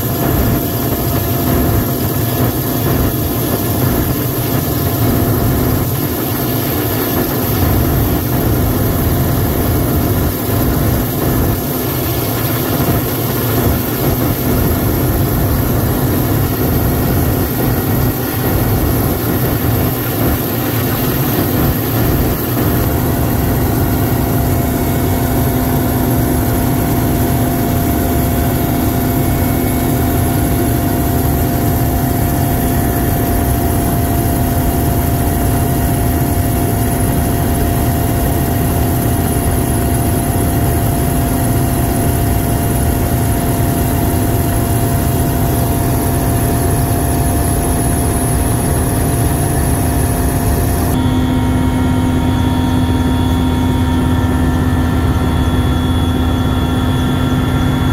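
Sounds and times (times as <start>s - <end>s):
helicopter engines and rotor: 0.0s - 57.9s.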